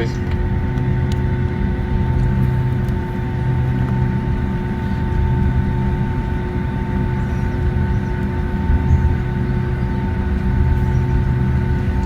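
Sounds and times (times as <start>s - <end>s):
jet engine whining tones: 0.0s - 12.0s
jet engines rumbling in cabin: 0.0s - 12.0s.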